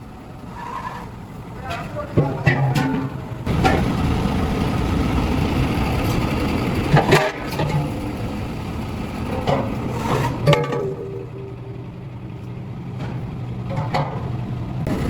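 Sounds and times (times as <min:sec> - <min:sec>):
machine running steadily: 0:00.0 - 0:15.0.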